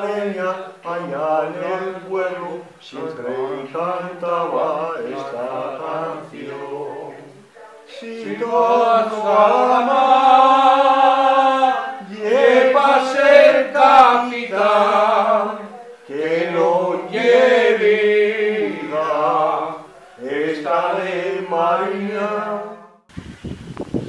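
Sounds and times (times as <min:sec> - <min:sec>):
men singing unaccompanied: 0:00.0 - 0:23.0.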